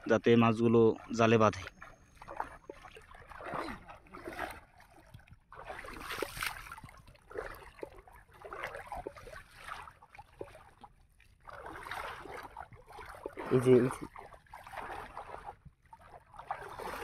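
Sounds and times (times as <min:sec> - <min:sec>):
shallow water sloshing and splashing: 0:00.0 - 0:17.0.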